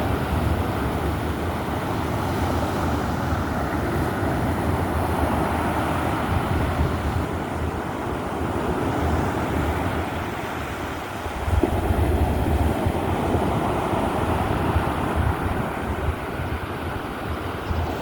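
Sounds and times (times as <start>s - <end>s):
waves and surf rumbling: 0.0s - 18.0s
wind buffeting microphone: 0.0s - 18.0s.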